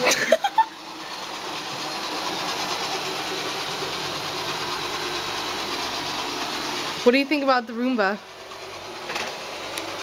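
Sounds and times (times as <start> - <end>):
robot vacuum whirring: 0.8 - 10.0.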